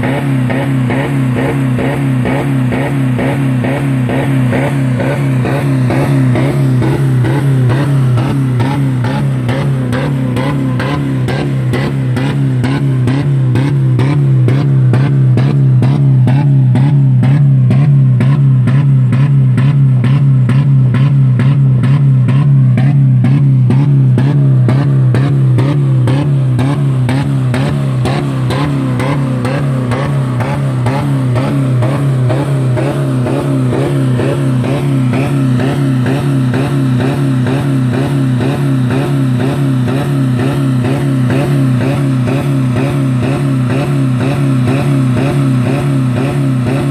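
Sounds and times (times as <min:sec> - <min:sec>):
car engine running at high revs: 0:00.0 - 0:46.9.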